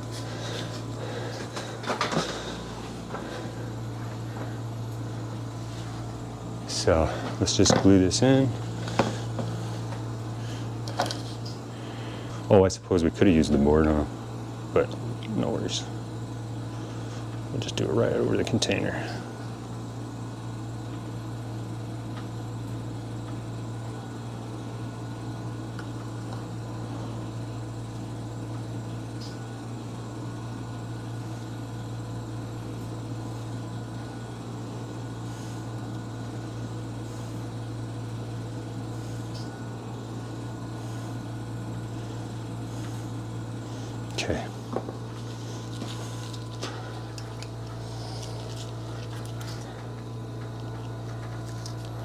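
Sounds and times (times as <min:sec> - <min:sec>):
machine humming and hissing: 0:00.0 - 0:52.0.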